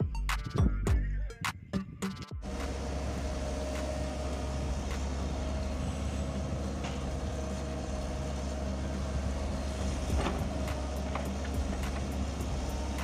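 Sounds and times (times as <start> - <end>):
excavator engine droning: 2.4 - 13.0.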